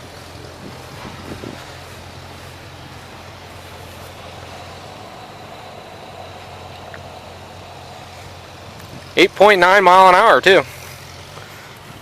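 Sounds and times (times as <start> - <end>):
engine idling: 0.0 - 12.0
faint steady whine: 0.0 - 12.0.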